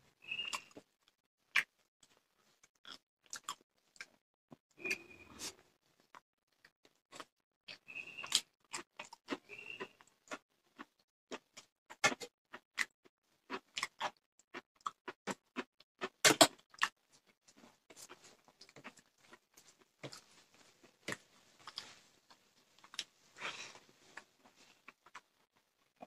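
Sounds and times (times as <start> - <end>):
person chewing and smacking lips: 0.4 - 4.2, 4.8 - 26.0.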